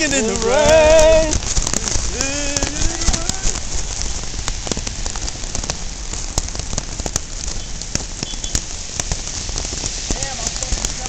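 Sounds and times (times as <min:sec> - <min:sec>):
heavy rain pouring: 0:00.0 - 0:11.0
raindrops ticking close by: 0:00.0 - 0:11.0.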